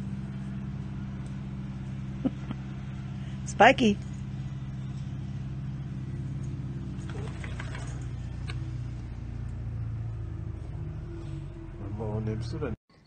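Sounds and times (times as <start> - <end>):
low engine hum: 0.0 - 12.8.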